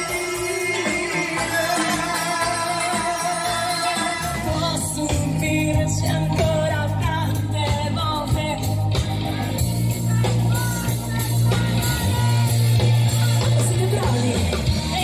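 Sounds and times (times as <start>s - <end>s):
live pop-rock band playing: 0.0s - 15.0s
woman singing: 0.0s - 15.0s.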